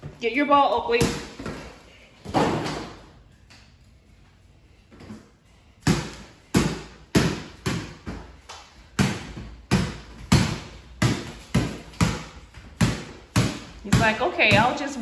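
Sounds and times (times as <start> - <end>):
ball bouncing on concrete floor: 0.0 - 3.6, 4.9 - 15.0.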